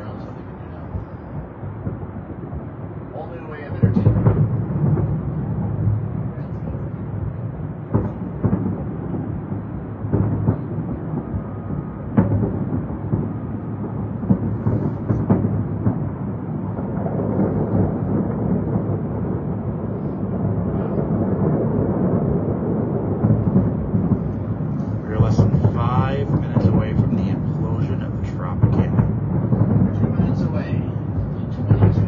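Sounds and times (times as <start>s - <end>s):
distant fireworks rumble: 0.0s - 32.0s
sharp firework bangs: 0.0s - 32.0s.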